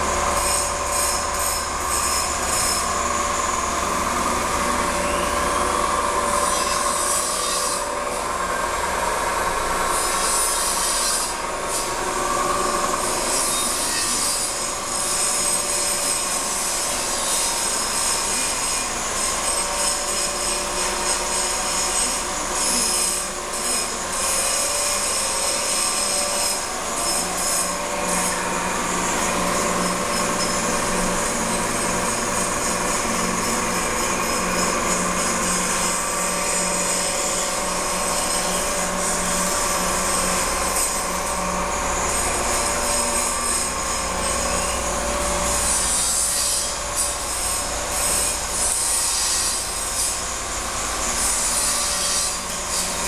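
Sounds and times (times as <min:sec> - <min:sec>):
machinery hum: 0:00.0 - 0:53.0
shrill machine squealing: 0:00.0 - 0:53.0.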